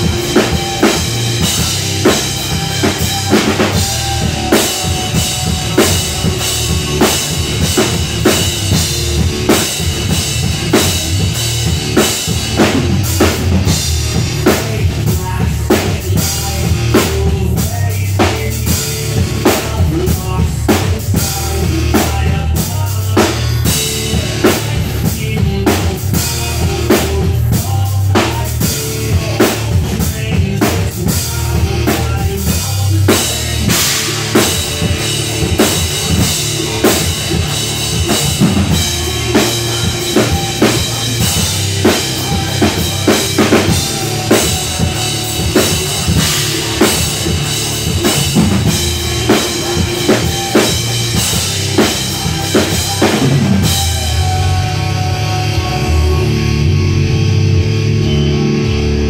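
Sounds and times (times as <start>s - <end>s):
drum kit playing: 0.0s - 59.0s.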